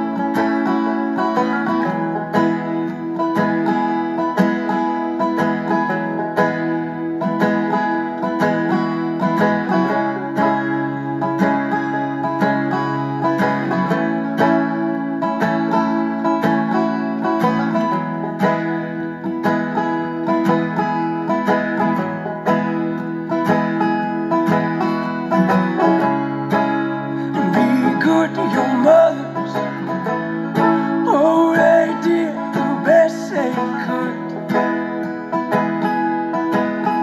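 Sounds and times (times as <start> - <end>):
plucked string instrumental: 0.0 - 37.0.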